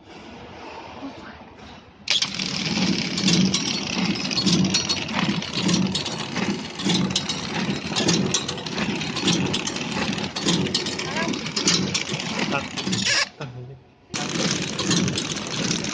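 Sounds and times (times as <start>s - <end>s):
packaging machine rhythmic clatter: 2.1s - 13.3s, 14.1s - 15.9s.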